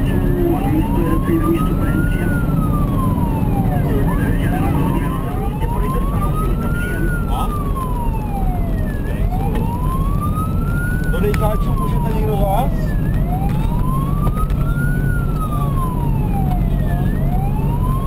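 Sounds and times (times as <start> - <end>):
engine and road noise: 0.0 - 18.0
wailing siren: 0.0 - 18.0.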